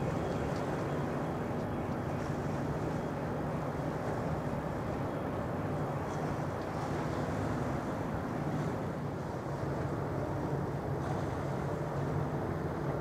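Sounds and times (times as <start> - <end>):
open-air background noise: 0.0 - 13.0.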